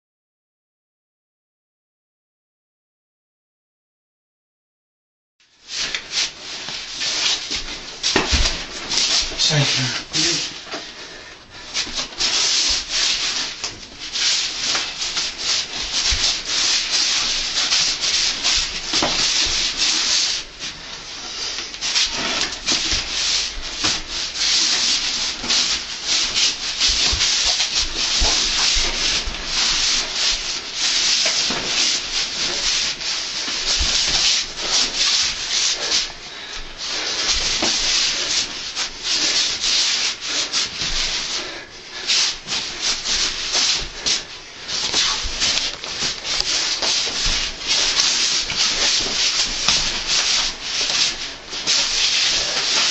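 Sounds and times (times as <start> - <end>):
fabric rustling: 5.6 - 52.9.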